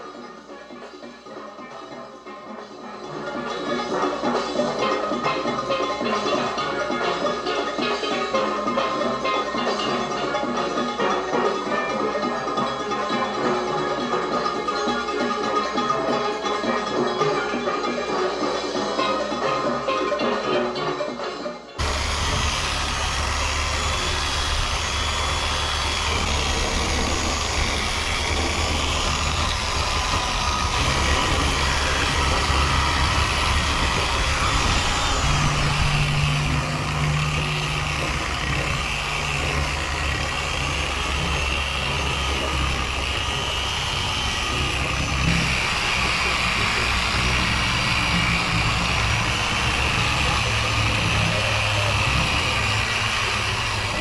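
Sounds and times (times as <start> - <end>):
power sanders running: 3.2 - 20.9, 21.8 - 54.0.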